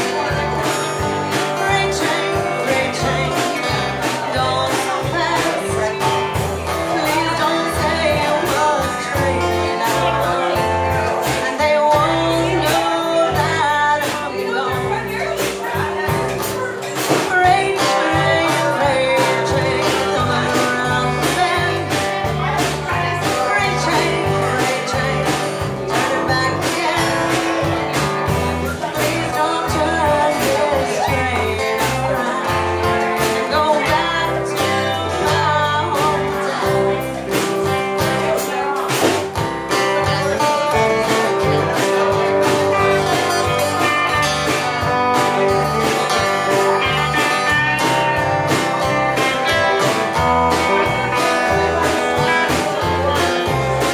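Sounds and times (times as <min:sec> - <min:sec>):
band playing country-style song: 0:00.0 - 0:53.9
person singing: 0:00.0 - 0:53.9
strummed acoustic guitar: 0:00.0 - 0:53.9.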